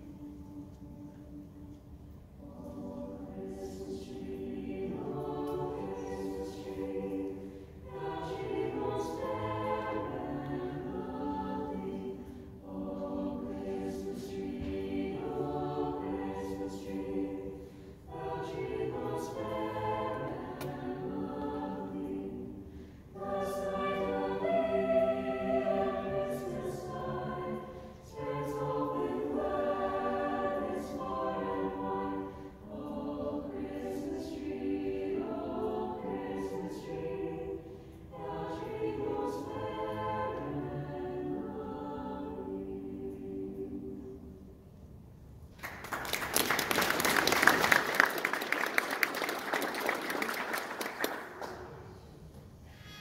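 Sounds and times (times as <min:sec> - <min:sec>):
choir singing a carol: 0:00.0 - 0:53.0.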